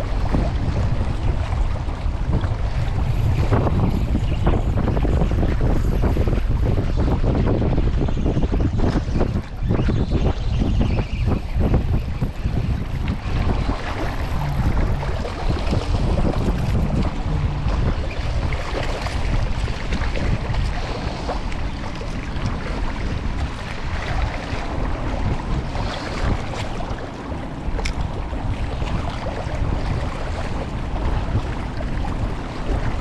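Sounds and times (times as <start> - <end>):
rushing water: 0.0 - 33.0
wind buffeting microphone: 0.0 - 33.0.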